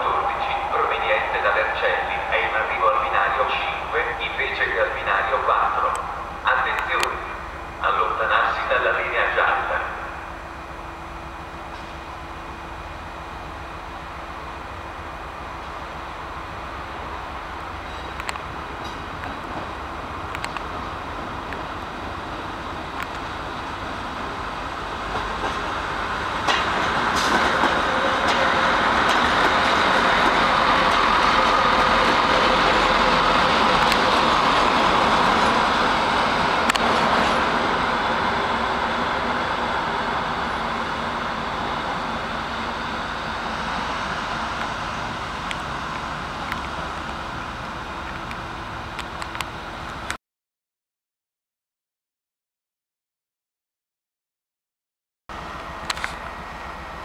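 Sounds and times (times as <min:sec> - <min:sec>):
train rumbling along track: 0:00.0 - 0:50.2, 0:55.3 - 0:57.0.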